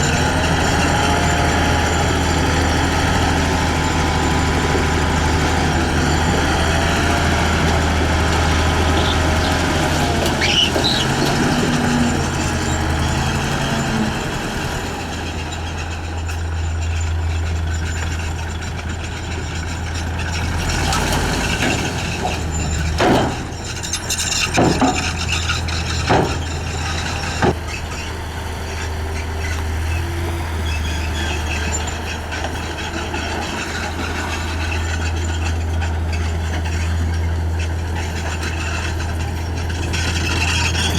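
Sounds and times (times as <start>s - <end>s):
diesel earthmoving machine running: 0.0s - 40.9s.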